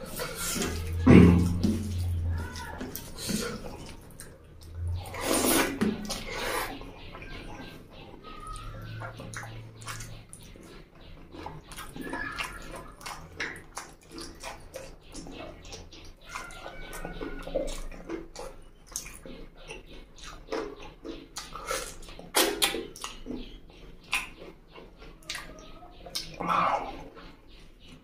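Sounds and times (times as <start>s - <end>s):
wet chewing and lip-smacking: 0.0s - 28.0s.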